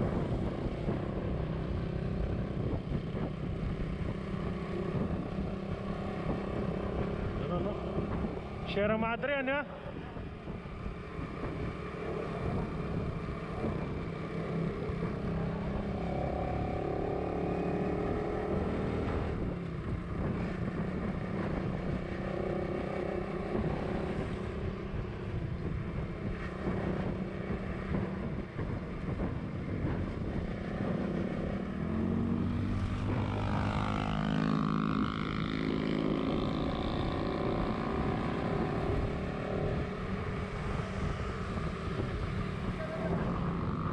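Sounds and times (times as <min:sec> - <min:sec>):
motorcycle engine running: 0:00.0 - 0:08.9, 0:09.8 - 0:43.9
road noise: 0:00.0 - 0:43.9.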